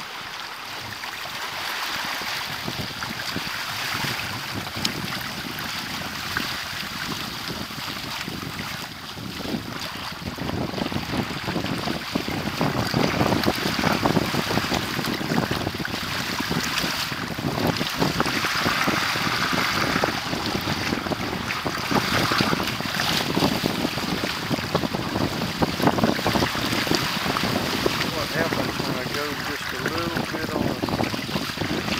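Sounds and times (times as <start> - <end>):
water splashing against hulls: 0.0 - 31.9
wind buffeting microphone: 0.7 - 31.9.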